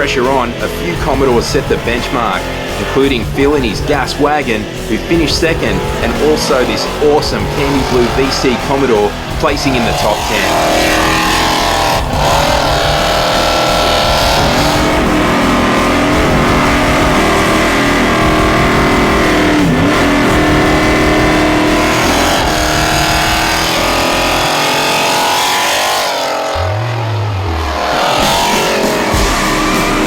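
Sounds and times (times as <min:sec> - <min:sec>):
car engine revving hard: 0:00.0 - 0:30.0.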